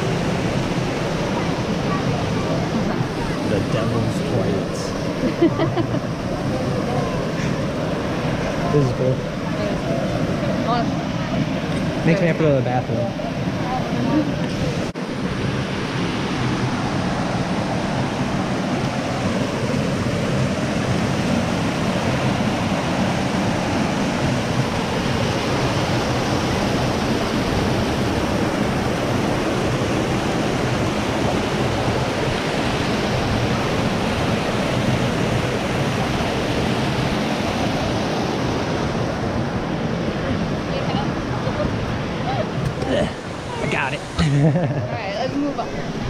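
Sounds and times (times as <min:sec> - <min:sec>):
creek water rushing over rocks: 0:00.0 - 0:46.0.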